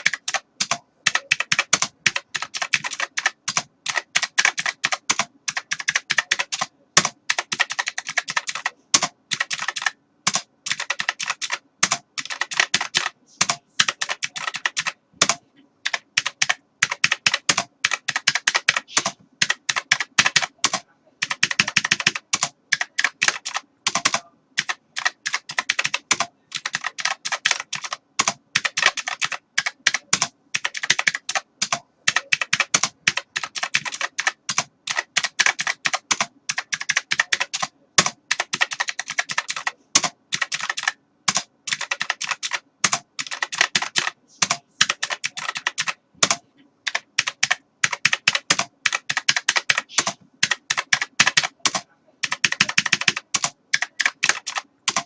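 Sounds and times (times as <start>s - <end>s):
keyboard typing: 0.0s - 55.0s.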